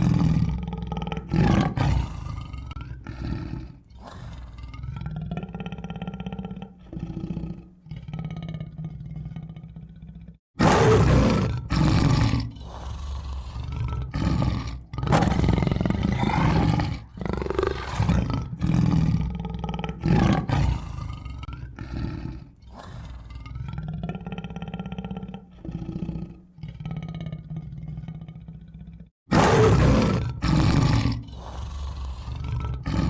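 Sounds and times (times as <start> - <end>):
tiger roaring and growling: 0.0 - 33.0.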